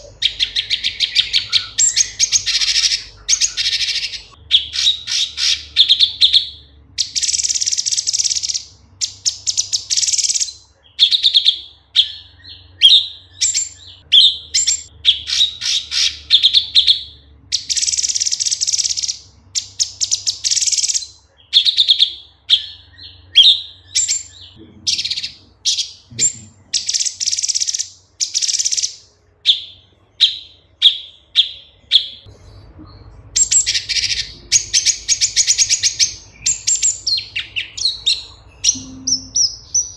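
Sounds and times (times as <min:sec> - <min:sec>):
bird singing buzzy trills and whistles: 0:00.0 - 0:32.3, 0:33.3 - 0:39.9.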